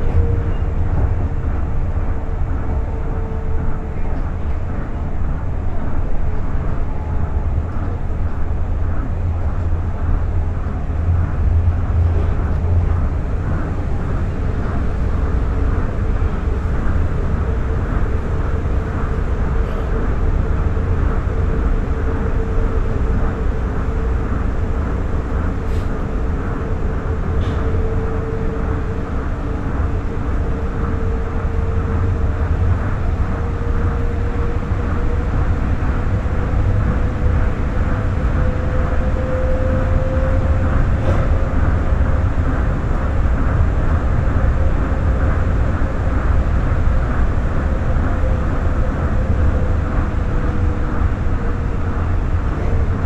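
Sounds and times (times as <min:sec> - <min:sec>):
steady train whine: 0:00.0 - 0:53.0
train rumble from inside: 0:00.0 - 0:53.0.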